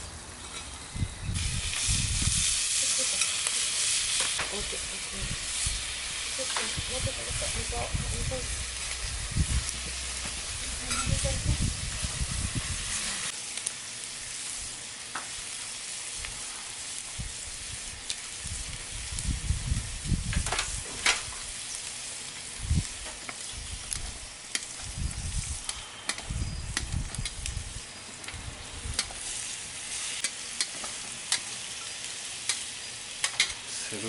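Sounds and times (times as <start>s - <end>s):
bonfire sizzling hiss: 0.0s - 34.0s
fire crackles and pops: 1.3s - 34.0s.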